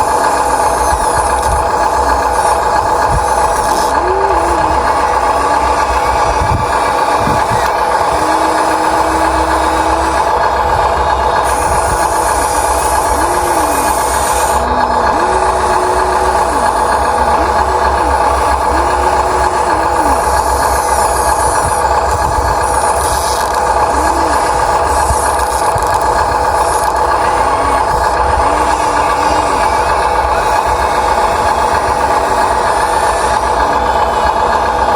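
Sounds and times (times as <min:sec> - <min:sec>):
electric gear motors whining: 0:00.0 - 0:34.9
steady mechanical drone: 0:00.0 - 0:34.9.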